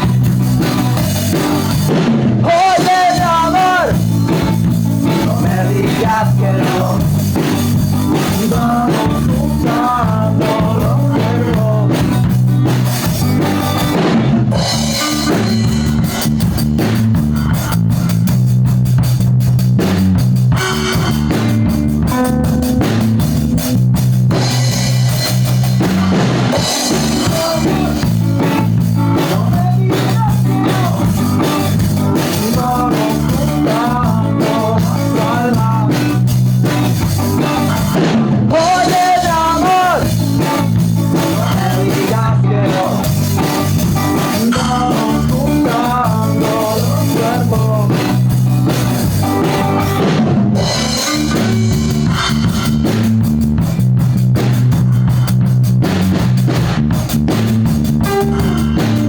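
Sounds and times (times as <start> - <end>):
rock music with drums and guitar: 0.0 - 59.0.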